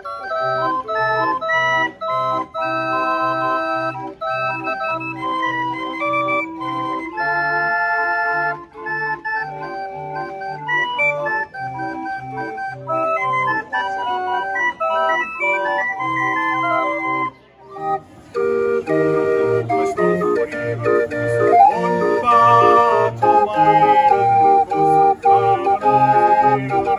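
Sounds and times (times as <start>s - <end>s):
barrel organ playing a tune: 0.0s - 26.9s
oom-pah bass: 0.3s - 26.9s.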